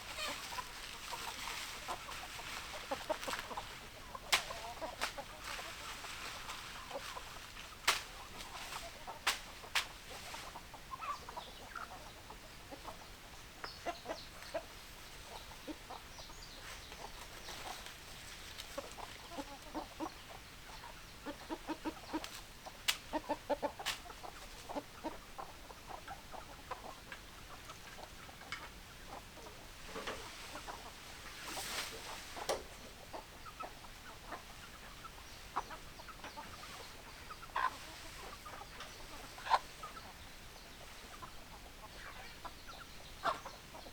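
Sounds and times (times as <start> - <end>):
hens clucking: 0.0 - 43.9.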